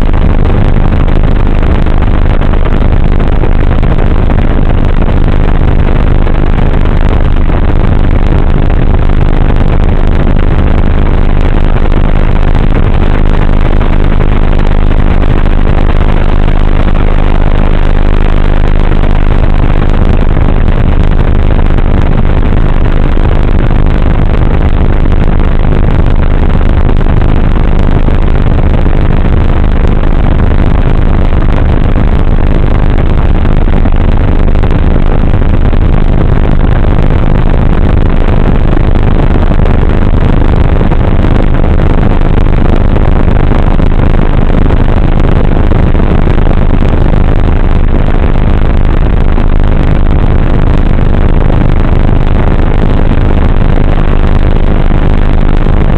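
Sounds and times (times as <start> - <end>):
low hum: 0.0 - 55.9
wind rush: 0.0 - 55.9.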